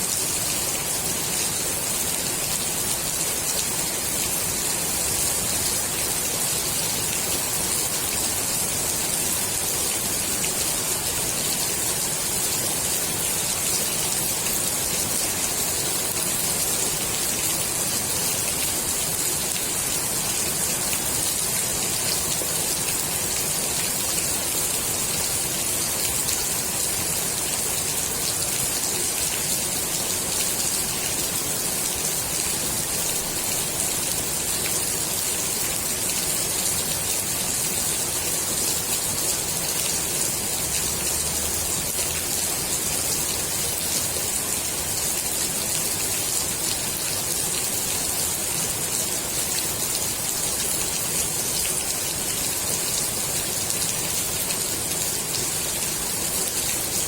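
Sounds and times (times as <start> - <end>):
rain falling on pool water: 0.0 - 57.0.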